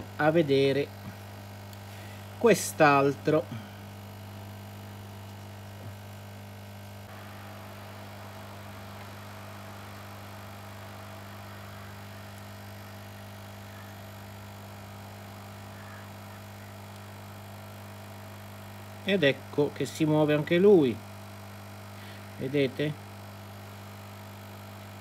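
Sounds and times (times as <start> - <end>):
hot-air station hum and hiss: 0.0 - 25.0.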